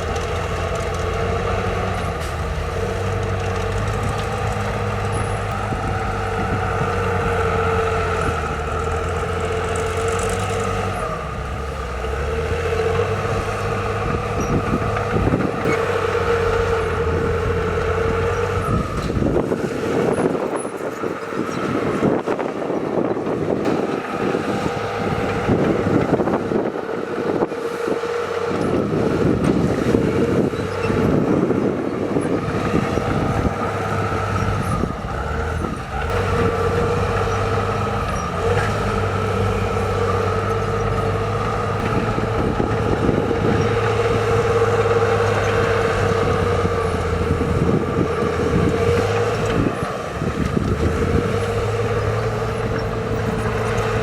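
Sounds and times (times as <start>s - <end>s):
heavy diesel machinery engine: 0.0s - 54.0s.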